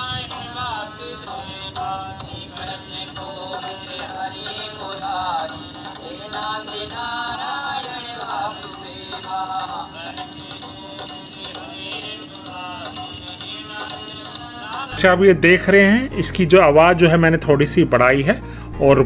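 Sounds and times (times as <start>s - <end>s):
high ticking beat: 0.0s - 15.4s
man singing: 0.0s - 19.0s.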